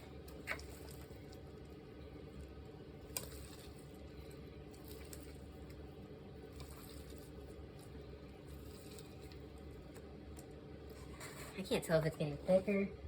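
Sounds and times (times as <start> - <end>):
slime squishing and crackling: 0.0 - 11.2.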